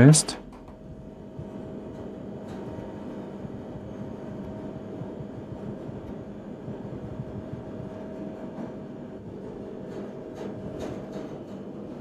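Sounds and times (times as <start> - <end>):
constant hum: 0.0 - 12.0
low mechanical rumble: 0.0 - 12.0.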